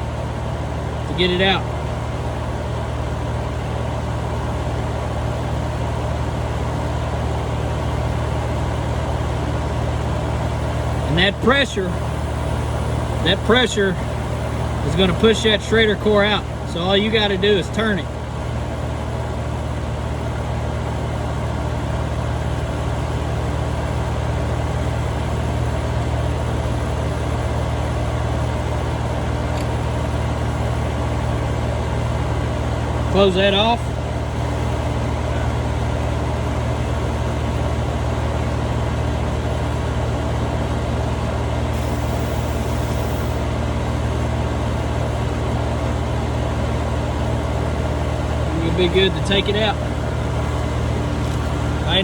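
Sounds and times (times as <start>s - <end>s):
air conditioner hum: 0.0s - 6.8s, 9.2s - 20.4s, 24.4s - 39.1s, 40.0s - 52.0s.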